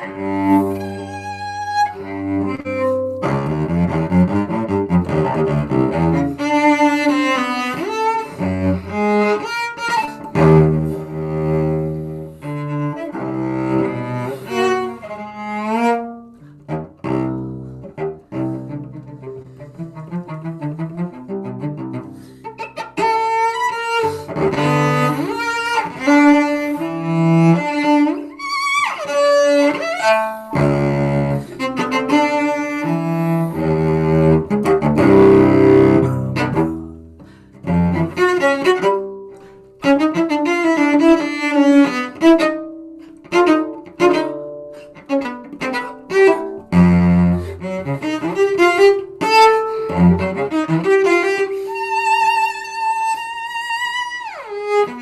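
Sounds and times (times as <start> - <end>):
bowed cello: 0.0 - 55.0.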